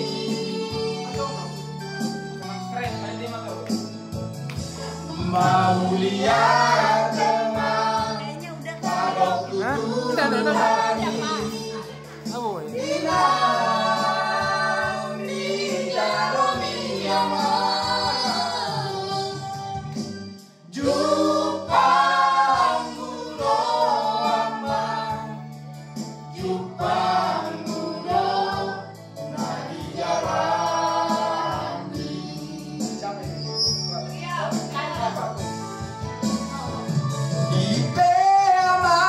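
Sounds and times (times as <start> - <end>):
group singing into microphones: 0.0 - 2.5, 4.7 - 33.9, 36.2 - 39.0.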